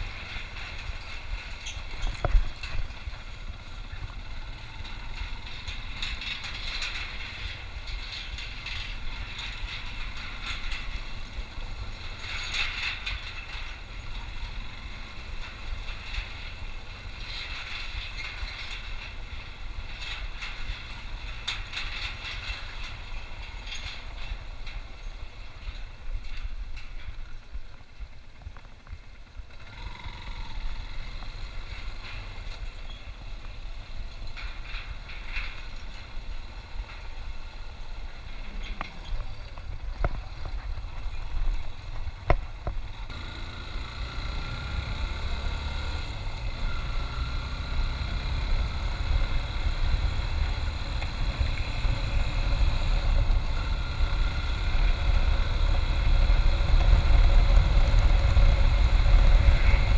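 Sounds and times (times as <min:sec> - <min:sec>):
motorcycle engine running: 0:00.0 - 0:21.2, 0:27.7 - 0:59.9
wind rumble on microphone: 0:00.0 - 0:59.9.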